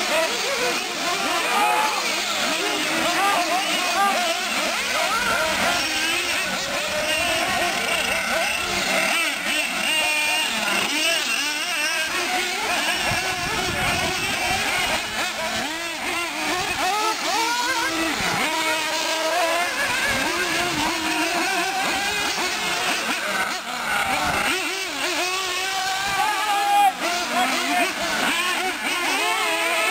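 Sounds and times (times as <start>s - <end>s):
rc car motors revving: 0.0s - 29.9s.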